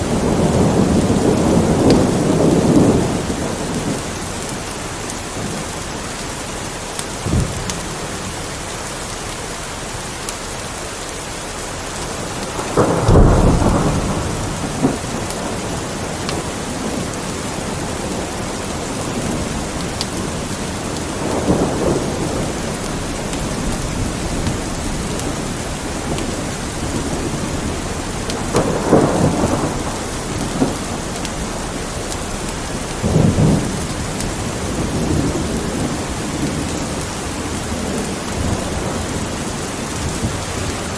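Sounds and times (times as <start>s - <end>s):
low rolls of thunder: 0.0s - 5.9s, 12.0s - 40.9s
steady rain: 0.0s - 40.9s.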